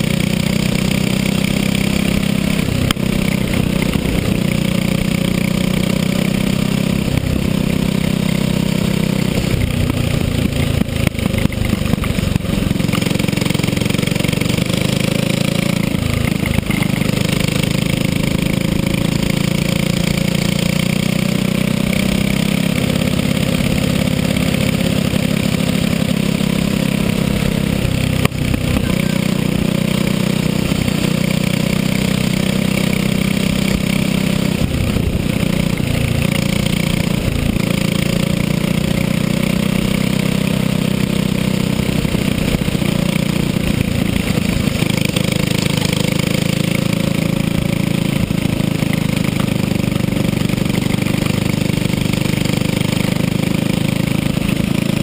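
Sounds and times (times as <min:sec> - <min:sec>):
racing kart engine running hard: 0:00.0 - 0:55.0.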